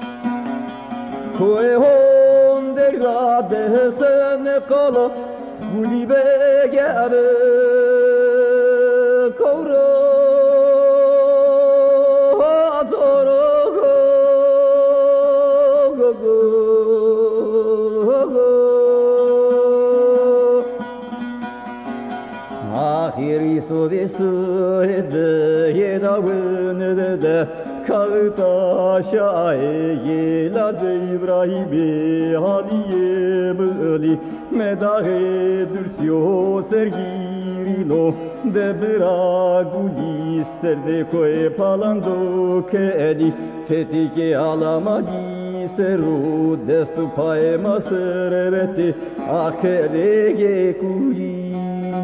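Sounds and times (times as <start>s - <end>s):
instrumental accompaniment: 0.0s - 52.0s
man singing ornamented melody: 0.0s - 52.0s.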